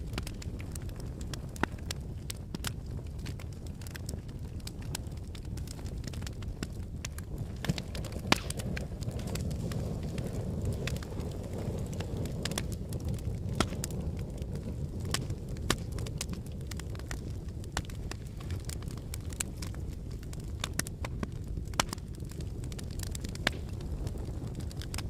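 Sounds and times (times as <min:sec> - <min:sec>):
sharp cracks and pops: 0:00.0 - 0:25.0
volcanic rumble: 0:00.0 - 0:25.0.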